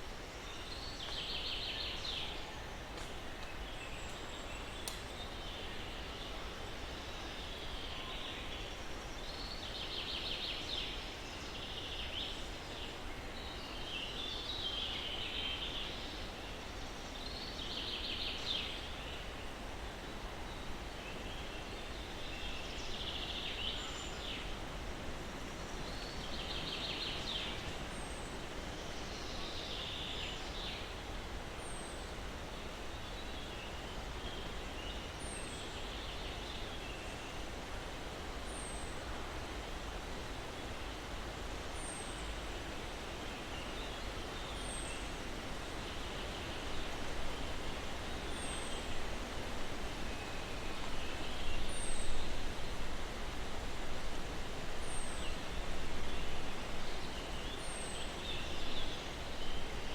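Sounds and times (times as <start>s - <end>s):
breeze in pine trees: 0.0s - 59.9s.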